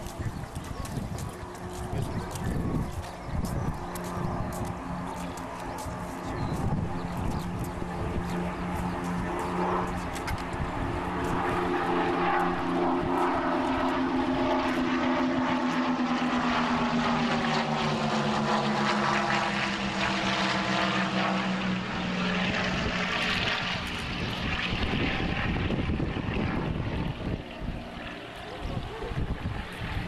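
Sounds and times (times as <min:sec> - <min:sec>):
propeller planes droning past: 0:00.0 - 0:30.0.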